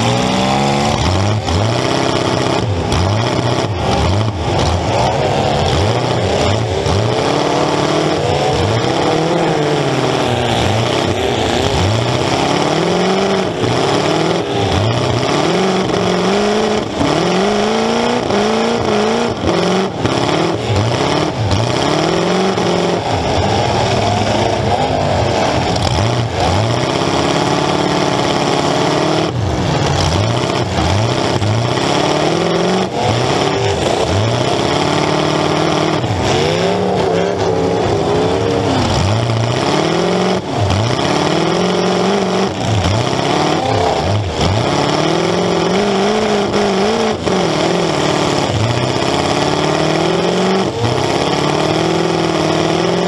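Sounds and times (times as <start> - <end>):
loud car engine revving: 0.0 - 53.0.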